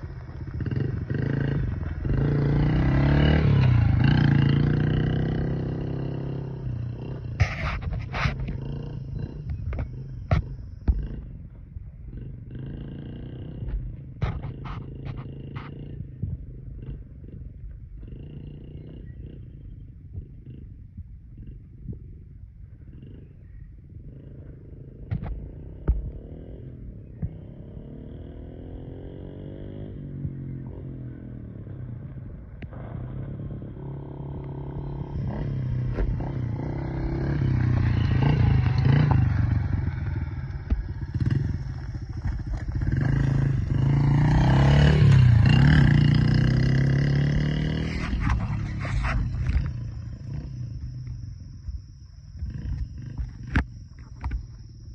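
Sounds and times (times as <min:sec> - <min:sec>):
dirt bike engine passing: 0:00.0 - 0:19.6, 0:24.1 - 0:54.9.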